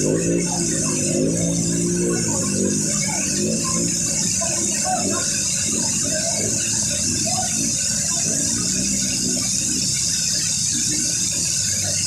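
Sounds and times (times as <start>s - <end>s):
floodwater rushing over ground: 0.0s - 12.0s.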